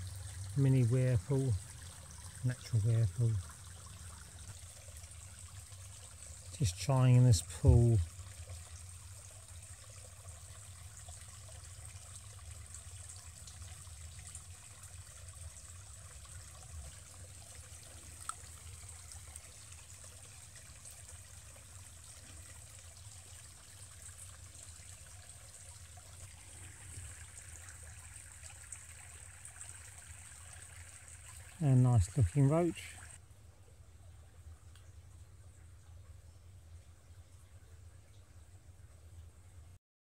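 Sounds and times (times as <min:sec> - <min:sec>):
stream trickling: 0:00.0 - 0:39.8.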